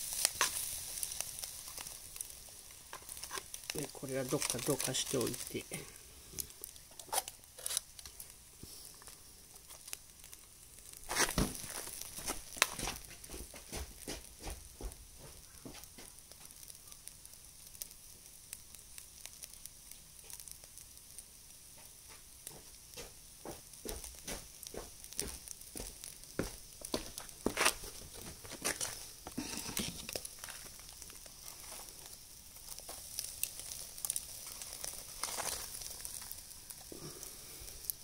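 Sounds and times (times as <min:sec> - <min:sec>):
crackles and clicks: 0:00.0 - 0:38.0
food sizzling on a grill: 0:00.0 - 0:38.0.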